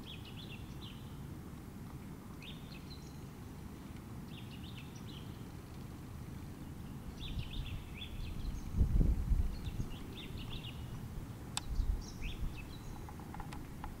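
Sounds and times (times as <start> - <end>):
small birds chirping: 0.0 - 1.2, 2.4 - 3.3, 4.2 - 5.9, 6.5 - 14.0.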